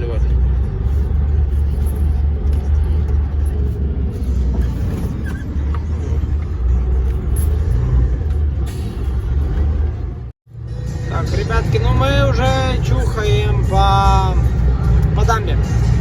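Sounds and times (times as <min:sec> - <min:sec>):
road noise: 0:00.0 - 0:16.0
truck diesel engine rumble: 0:00.0 - 0:16.0.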